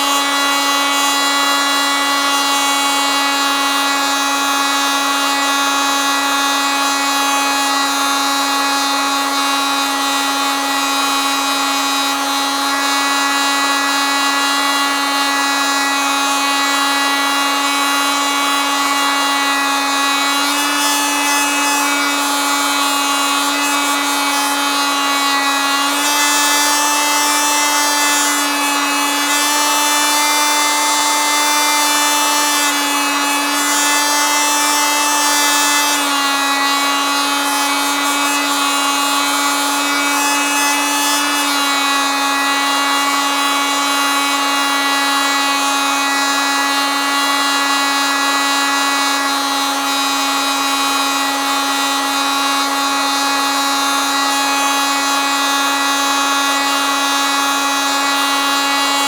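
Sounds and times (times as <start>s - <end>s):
oscillating multitool buzzing: 0.0s - 59.0s.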